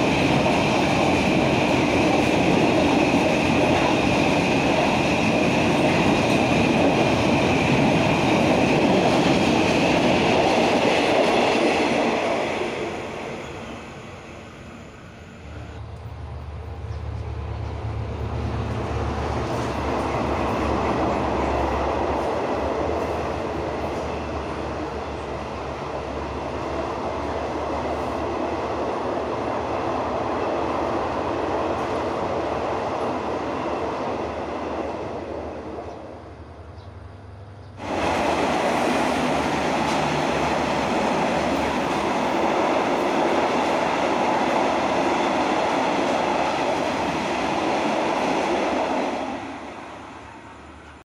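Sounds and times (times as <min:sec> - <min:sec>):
passing train rumble: 0:00.0 - 0:51.0.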